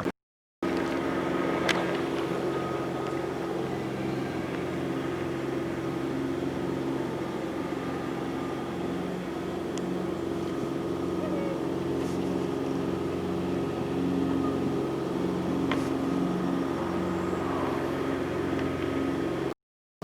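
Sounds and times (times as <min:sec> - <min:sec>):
motor humming: 0:00.6 - 0:19.5.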